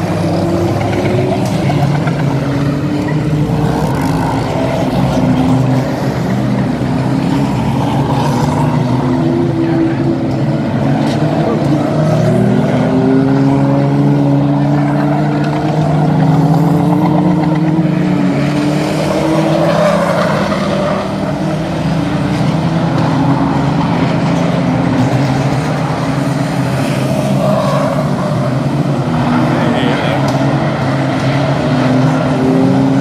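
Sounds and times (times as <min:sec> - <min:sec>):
racing car engines: 0:00.0 - 0:33.0.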